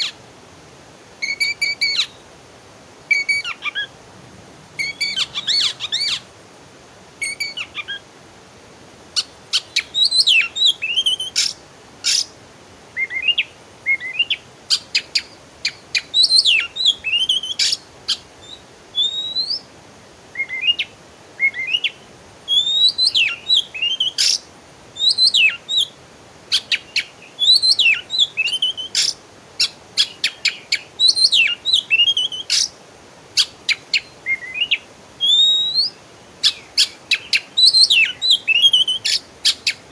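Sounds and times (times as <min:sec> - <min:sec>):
songbird singing: 0:00.0 - 0:00.3, 0:01.2 - 0:02.4, 0:03.0 - 0:08.1, 0:09.1 - 0:39.9.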